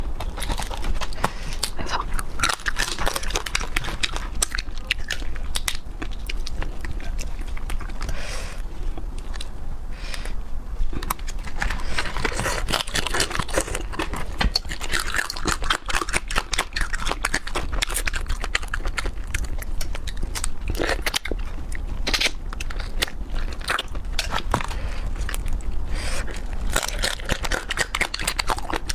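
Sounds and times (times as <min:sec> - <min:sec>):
chewing crunchy food: 0:00.0 - 0:28.9.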